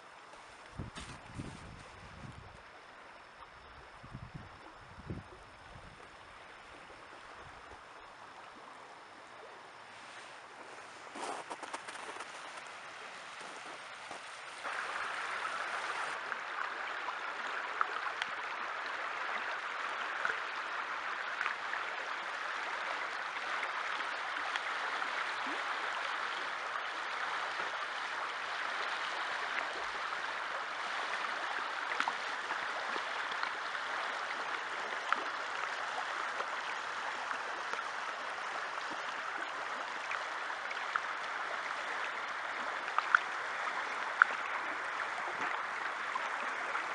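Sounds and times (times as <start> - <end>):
river water babbling over stones: 5.4 - 46.9.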